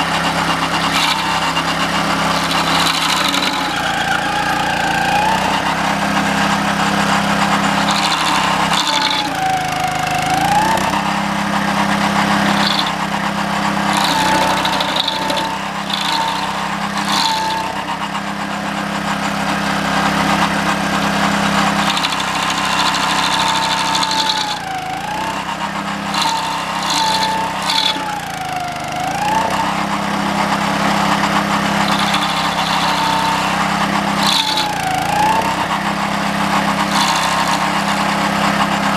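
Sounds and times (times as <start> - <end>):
stump grinder engine bogging: 0.0 - 38.9.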